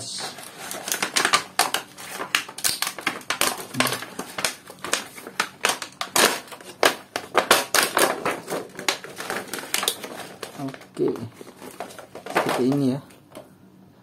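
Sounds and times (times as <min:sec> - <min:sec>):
plastic packaging crinkling: 0:00.0 - 0:13.5.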